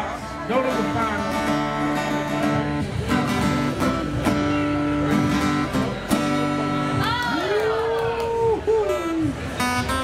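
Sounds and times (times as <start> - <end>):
acoustic guitar strumming chords: 0.0 - 7.1, 9.0 - 10.0.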